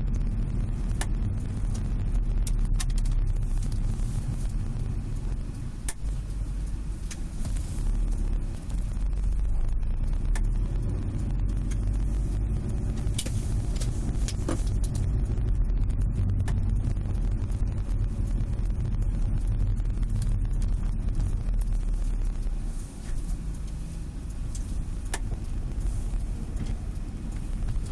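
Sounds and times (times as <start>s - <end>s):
low rumble of car on road: 0.0s - 27.9s.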